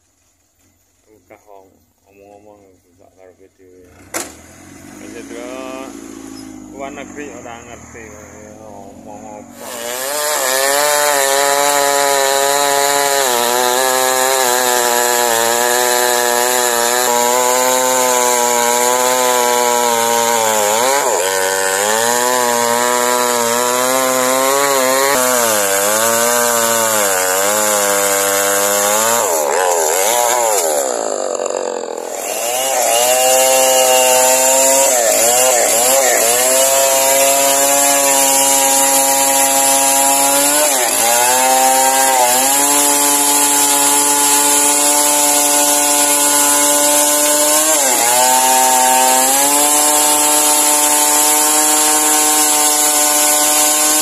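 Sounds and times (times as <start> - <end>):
chainsaw cutting log: 3.9 - 54.0.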